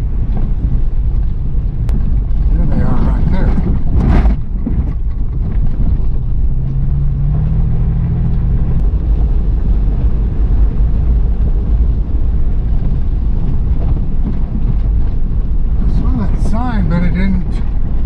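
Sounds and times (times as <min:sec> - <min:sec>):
car engine rumbling: 0:00.0 - 0:18.0
tyres on dirt trail: 0:00.0 - 0:18.0.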